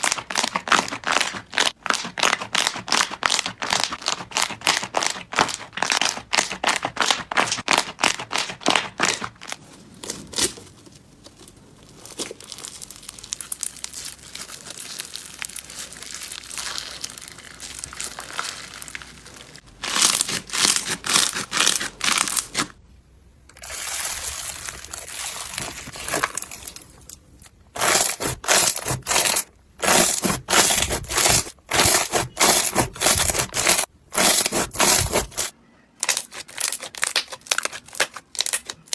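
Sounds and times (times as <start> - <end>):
crunchy slime crackling and popping: 0.0 - 22.6, 23.6 - 38.9
slime squishing: 0.0 - 22.7, 23.6 - 38.9.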